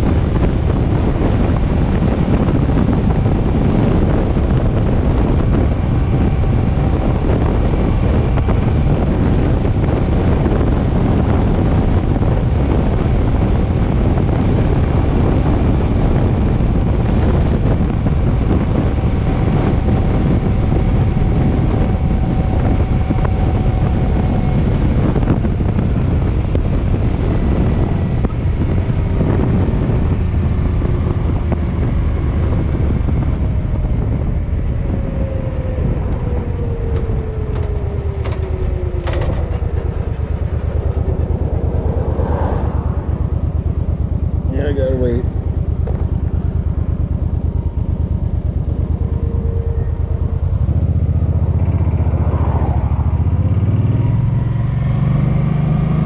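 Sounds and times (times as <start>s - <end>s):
motorcycle engine running: 0.0s - 56.0s
wind buffeting on microphone: 0.0s - 56.0s.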